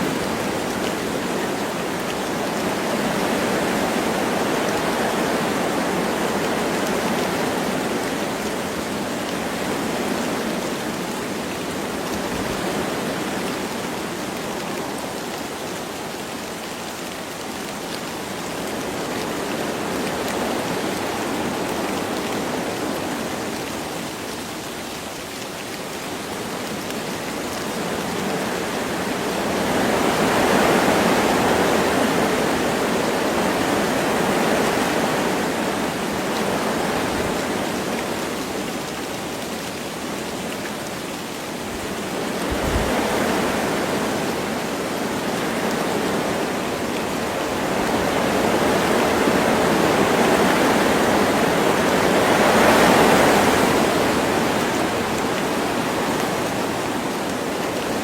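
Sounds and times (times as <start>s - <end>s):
light rain: 0.0s - 58.0s
wind rushing through trees: 0.0s - 58.0s.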